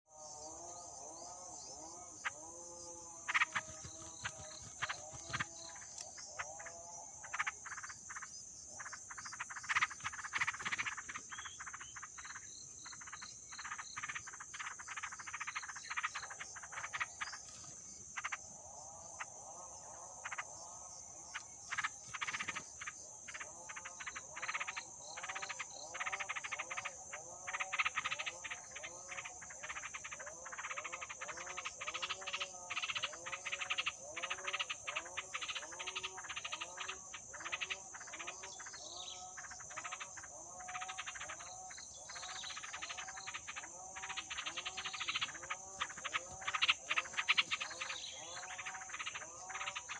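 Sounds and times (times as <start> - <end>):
high-pitched insect drone: 0.1 - 49.9
short croaking calls: 0.2 - 49.9.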